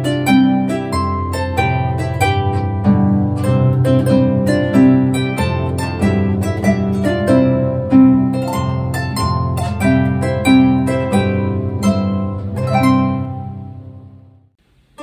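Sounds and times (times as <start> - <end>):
harp music: 0.0 - 15.0.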